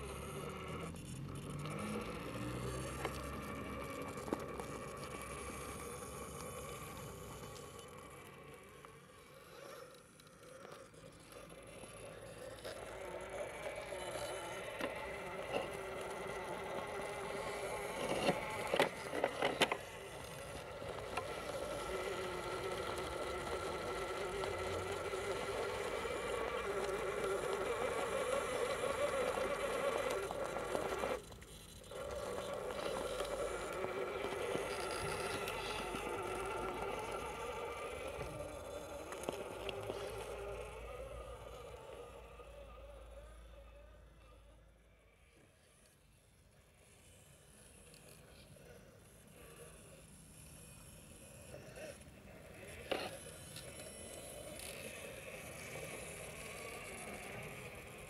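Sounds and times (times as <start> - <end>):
electric motor whining: 0.0 - 44.4, 47.2 - 58.0.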